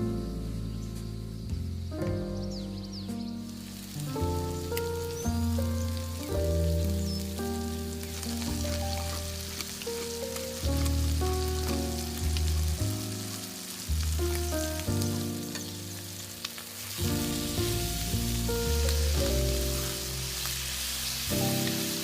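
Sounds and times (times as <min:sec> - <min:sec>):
background music with bass: 0:00.0 - 0:22.0
food sizzling in frying: 0:02.6 - 0:22.0.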